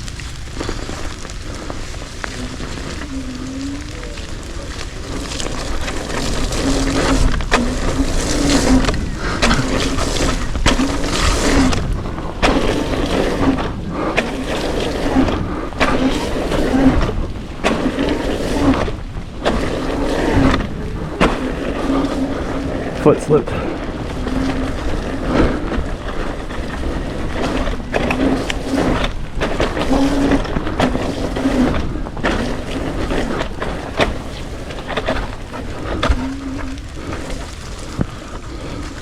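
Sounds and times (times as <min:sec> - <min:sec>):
hum: 0:00.0 - 0:39.0
steady rush of riding: 0:00.0 - 0:39.0.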